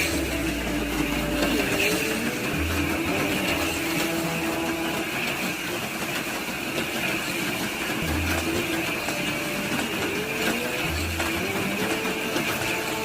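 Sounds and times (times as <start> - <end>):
slot car motors whirring: 0.0 - 13.0.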